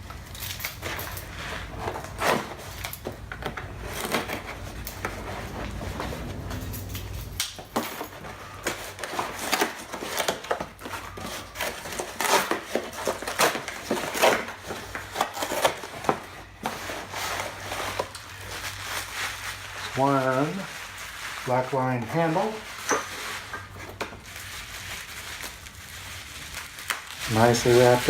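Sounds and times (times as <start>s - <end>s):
packaging crinkling and rustling: 0.0s - 28.0s.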